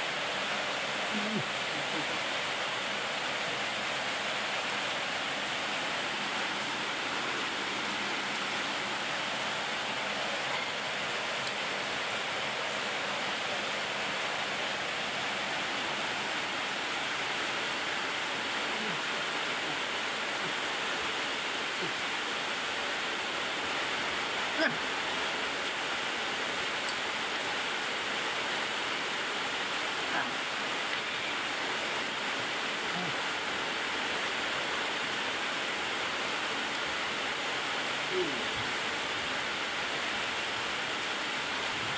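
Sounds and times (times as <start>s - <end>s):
steady hiss: 0.0s - 41.9s.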